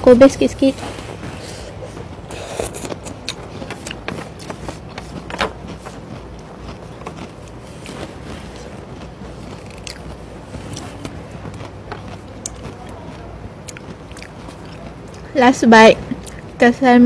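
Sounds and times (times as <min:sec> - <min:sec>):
low room hum: 0:00.0 - 0:17.0
chewing and crunching food: 0:01.0 - 0:16.8.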